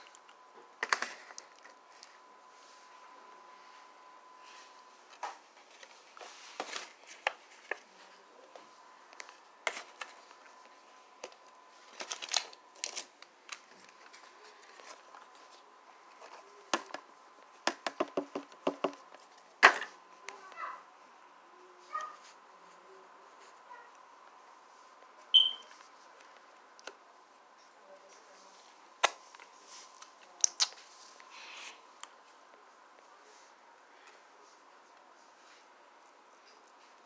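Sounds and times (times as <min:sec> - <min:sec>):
faint high hum: 0:00.0 - 0:17.8, 0:18.4 - 0:37.0.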